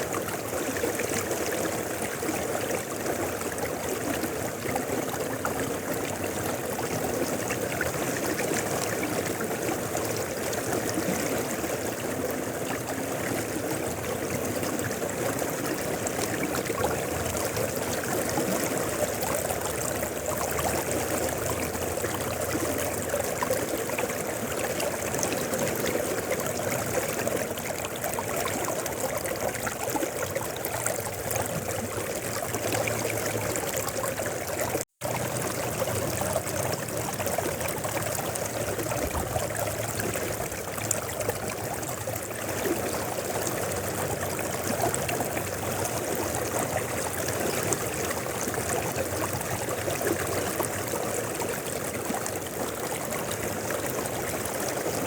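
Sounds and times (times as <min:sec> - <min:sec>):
river water rushing over stones: 0:00.0 - 0:55.0.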